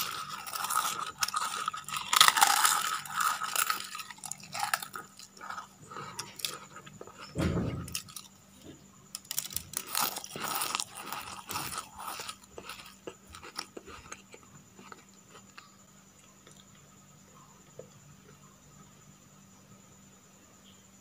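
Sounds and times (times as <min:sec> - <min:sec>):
crunching of crispy wafers: 0:00.0 - 0:16.9.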